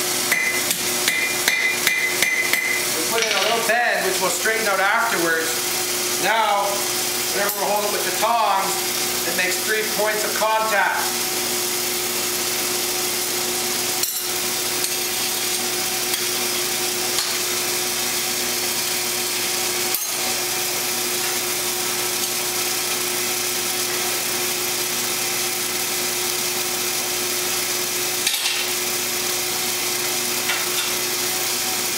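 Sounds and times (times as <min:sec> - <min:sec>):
forge blower rushing hiss: 0:00.0 - 0:31.9.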